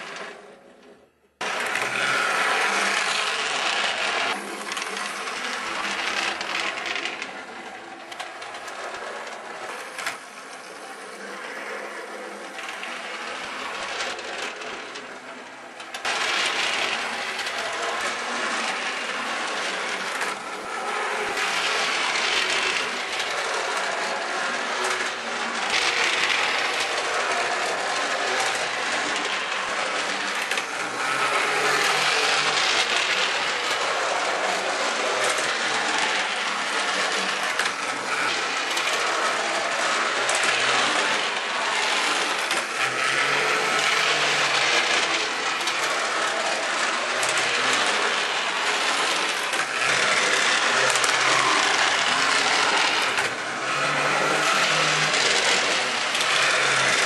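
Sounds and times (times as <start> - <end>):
model tram motor whirring: 10.7 - 57.0.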